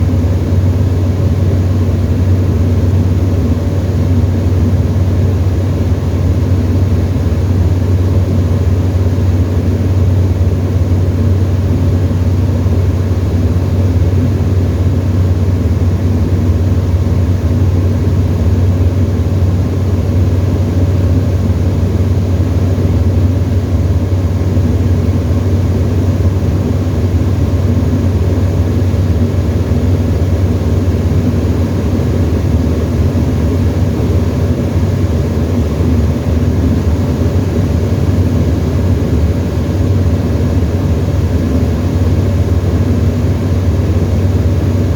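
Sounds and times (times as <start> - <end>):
light aircraft engine droning: 0.0 - 44.9.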